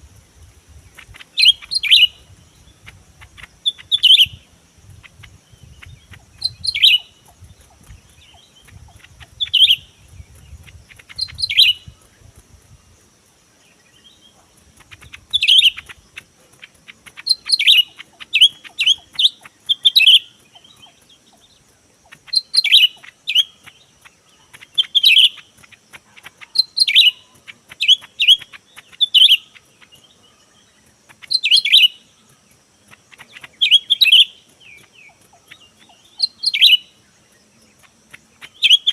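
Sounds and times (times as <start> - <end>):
faint high-pitched hum: 0.0 - 38.9
bird chirping calls: 0.7 - 38.9.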